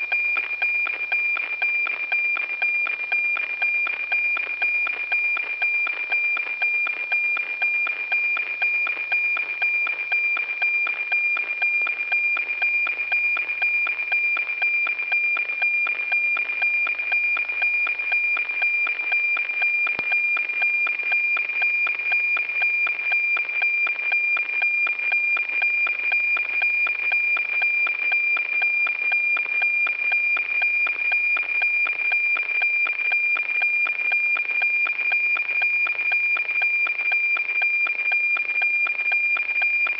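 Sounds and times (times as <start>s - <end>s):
satellite signal tone with ticking: 0.0s - 39.9s.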